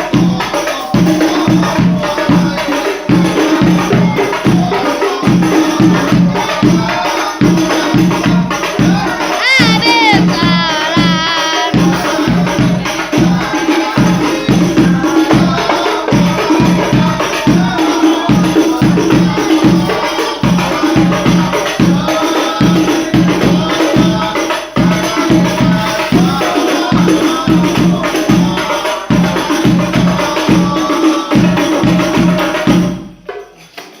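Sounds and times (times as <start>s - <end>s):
voices singing: 0.0s - 33.1s
hand drums with jingles: 0.0s - 34.0s.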